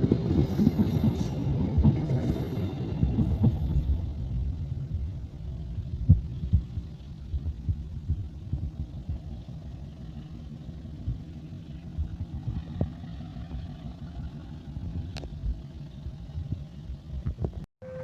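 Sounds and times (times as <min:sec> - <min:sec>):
locomotive diesel engine rumble: 0:00.0 - 0:18.0.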